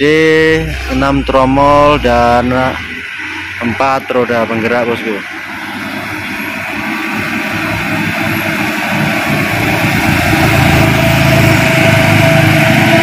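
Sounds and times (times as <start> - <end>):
steady whine: 0.0 - 13.0
truck diesel engine climbing: 0.0 - 13.0.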